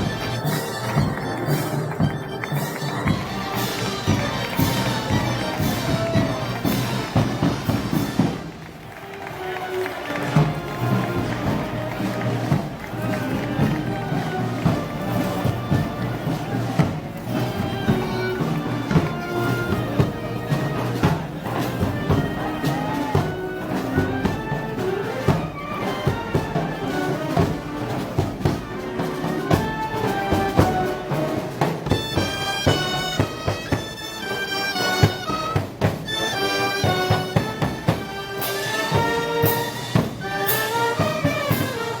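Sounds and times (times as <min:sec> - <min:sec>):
drum beats: 0:00.0 - 0:42.0
wind instruments playing melody: 0:00.0 - 0:42.0.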